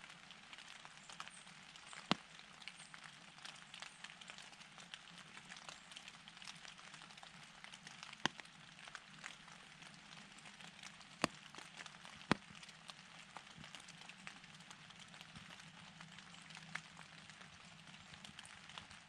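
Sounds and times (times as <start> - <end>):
patter of tiny ticks: 0.1 - 19.0.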